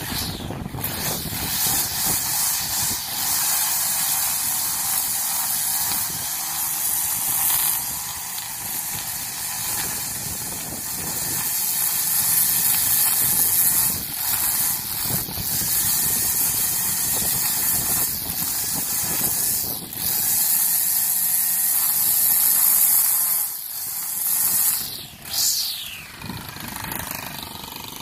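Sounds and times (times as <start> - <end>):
string trimmer cutting grass: 0.0 - 28.0.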